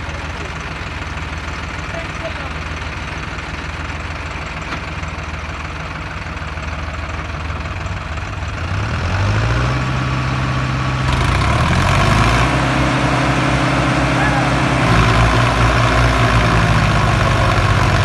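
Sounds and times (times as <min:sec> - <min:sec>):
tractor engine idling and revving: 0:00.0 - 0:18.0.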